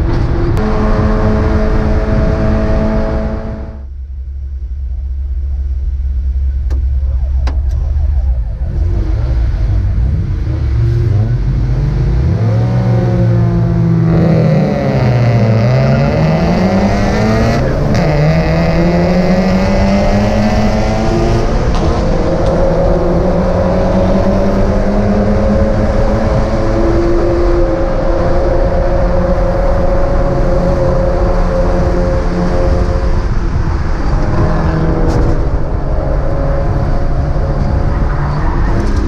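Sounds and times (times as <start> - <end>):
race car engine revving: 0.0 - 4.0, 4.9 - 39.0
other car engines: 0.0 - 39.0.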